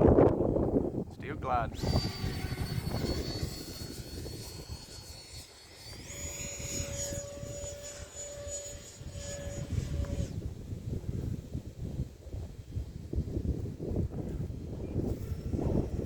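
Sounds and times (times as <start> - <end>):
electric ducted fan whining: 0.0 - 16.0
wind buffeting microphone: 0.0 - 16.0.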